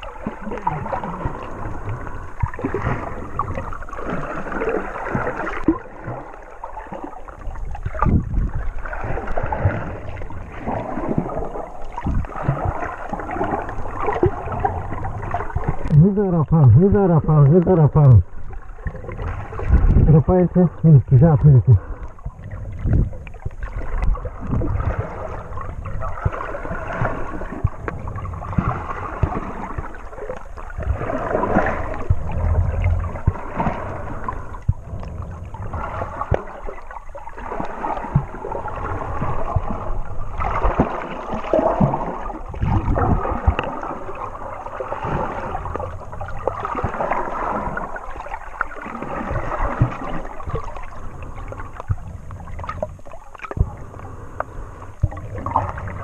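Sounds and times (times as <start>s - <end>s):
underwater gurgling and sloshing: 0.0s - 56.0s.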